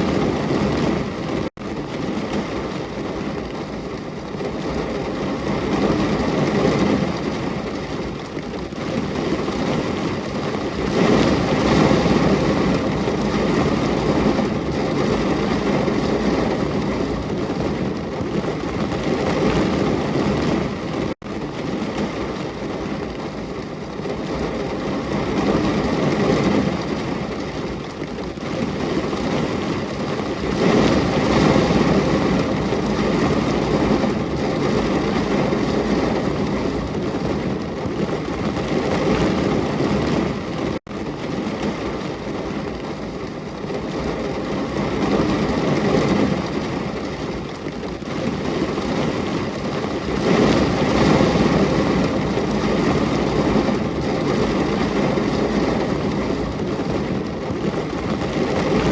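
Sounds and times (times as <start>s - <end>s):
rain falling: 0.0s - 58.9s.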